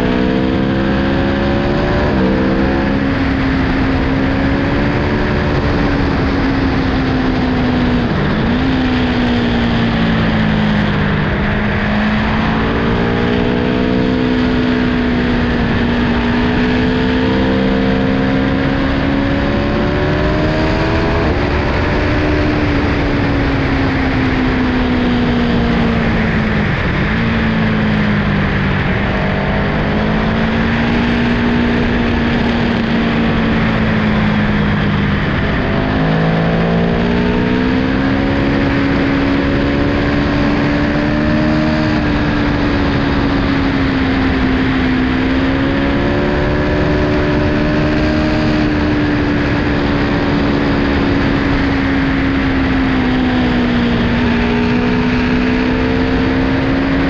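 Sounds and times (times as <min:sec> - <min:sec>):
motorcycle engine at cruising revs: 0:00.0 - 0:57.0
steady rushing noise: 0:00.0 - 0:57.0.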